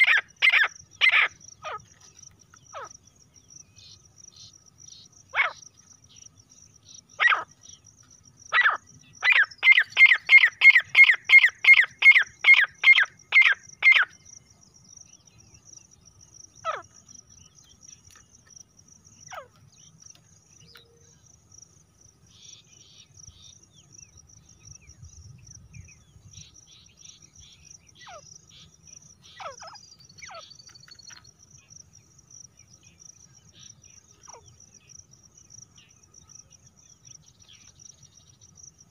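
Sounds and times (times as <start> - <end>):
francolin calling: 0.0 - 21.5, 22.2 - 38.9.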